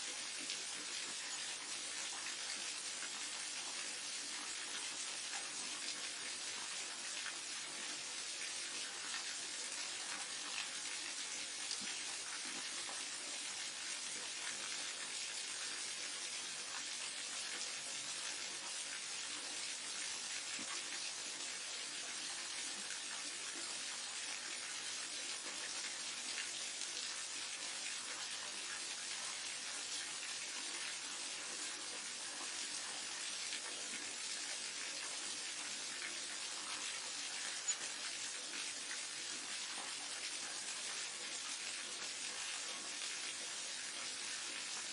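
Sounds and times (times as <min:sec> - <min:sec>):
waterfall and stream running: 0:00.0 - 0:44.9.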